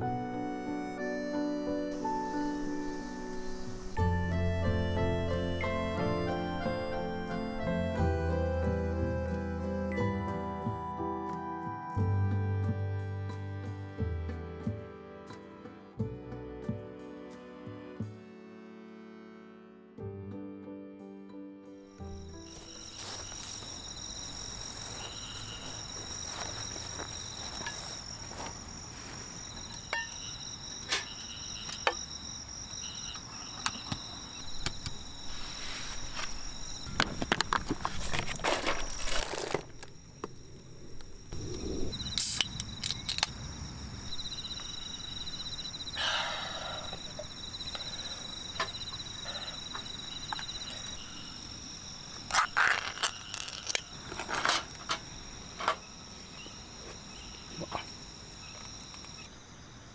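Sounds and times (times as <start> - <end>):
night insects trilling: 0.0 - 10.2, 21.9 - 59.9.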